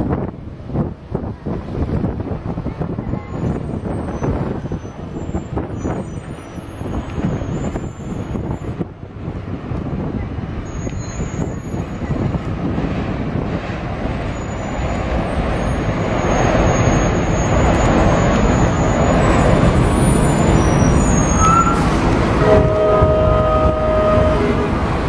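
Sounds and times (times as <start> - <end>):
train rumbling across bridge: 0.0 - 25.0.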